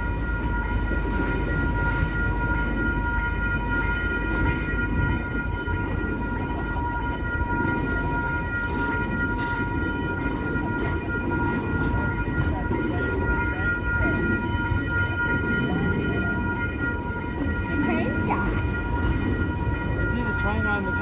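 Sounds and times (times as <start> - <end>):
level-crossing bell ringing: 0.0 - 21.0
train wheels rumbling on rail: 0.0 - 21.0.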